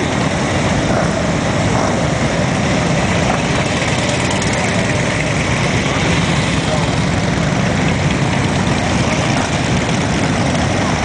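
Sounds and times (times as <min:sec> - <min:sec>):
motorcycles riding slowly past: 0:00.0 - 0:11.0.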